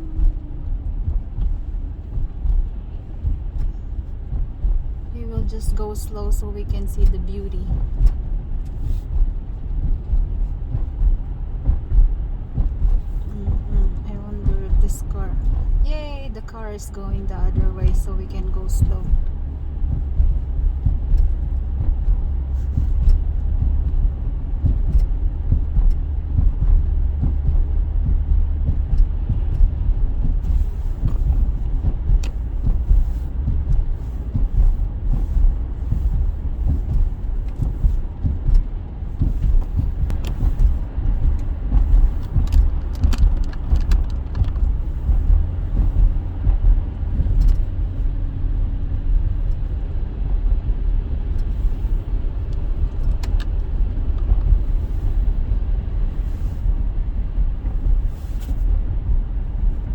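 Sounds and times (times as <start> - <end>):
car engine and road noise: 0.0 - 59.9
faint clicks and ticks: 0.0 - 59.9.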